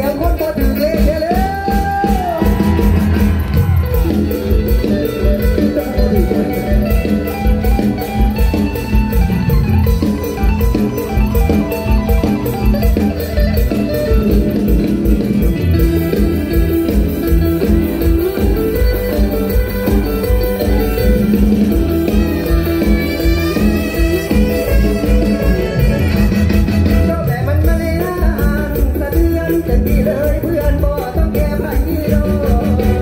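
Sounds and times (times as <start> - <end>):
amplified band music with driving beat: 0.0 - 33.0.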